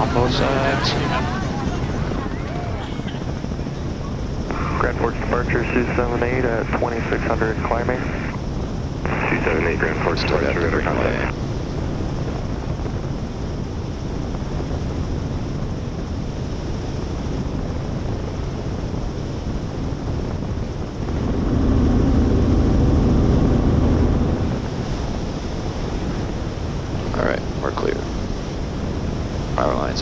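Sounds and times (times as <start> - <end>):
helicopter rotor and engine: 0.0 - 30.0
low hum: 0.0 - 30.0
wind on microphone: 0.0 - 30.0.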